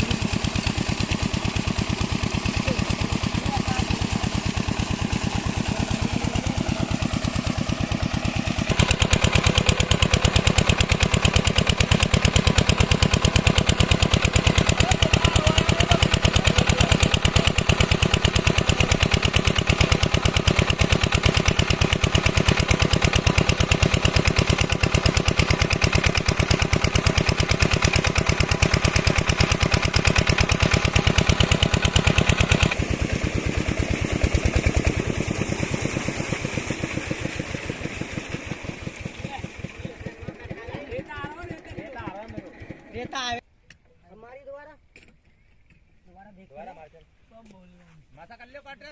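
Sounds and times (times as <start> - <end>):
diesel water pump engine running: 0.0 - 43.4.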